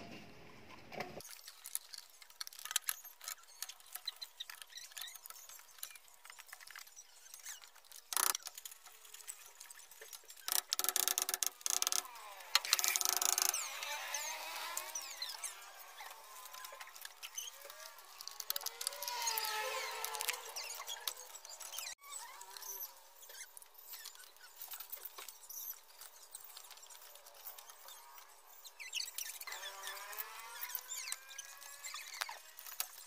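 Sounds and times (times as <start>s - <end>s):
brief squeaks: 0.7s - 33.0s.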